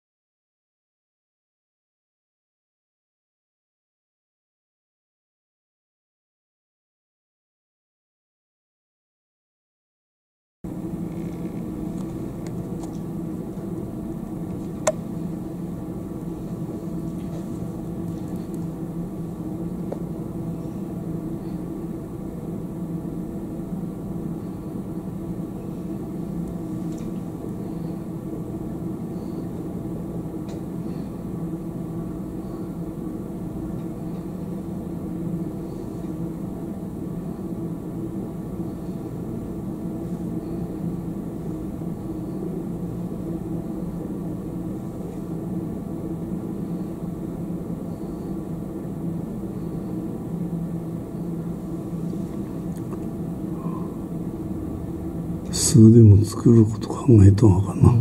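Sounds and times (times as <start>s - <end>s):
low mechanical hum: 10.7s - 58.0s.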